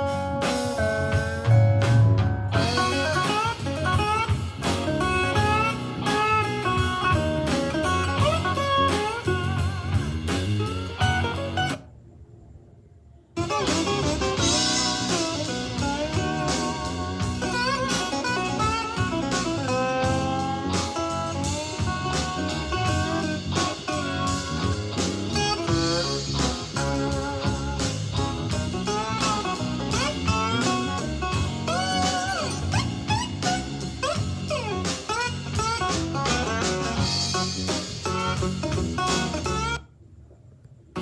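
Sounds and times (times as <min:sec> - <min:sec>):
blues music with guitar and drums: 0:00.0 - 0:11.8, 0:13.4 - 0:39.8.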